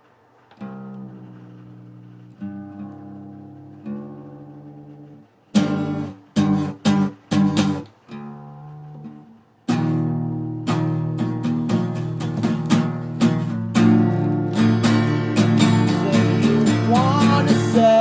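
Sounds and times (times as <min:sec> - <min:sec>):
acoustic guitar strumming chords: 0:00.6 - 0:18.0.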